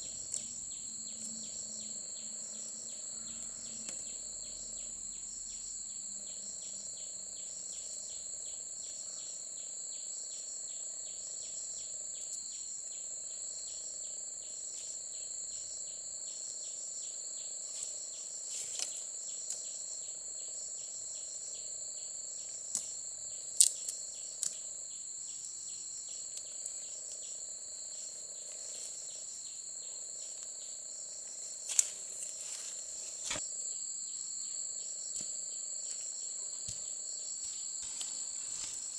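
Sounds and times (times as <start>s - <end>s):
low insect hum: 0.0s - 38.9s
pulsing insect trill: 0.0s - 38.9s
shrill insect chorus: 0.0s - 38.9s.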